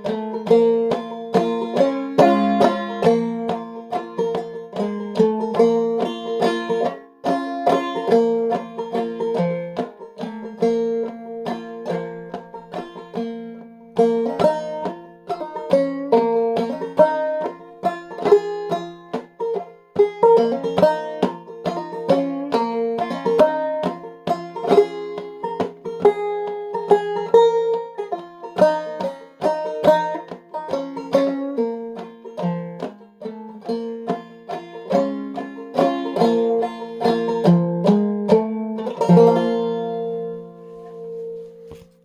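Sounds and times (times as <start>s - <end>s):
clawhammer banjo tune: 0.0s - 42.0s.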